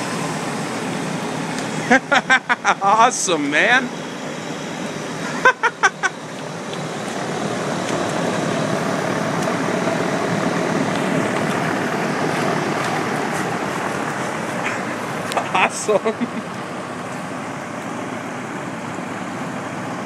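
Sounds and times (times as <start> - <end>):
heat pump running: 0.0 - 20.0.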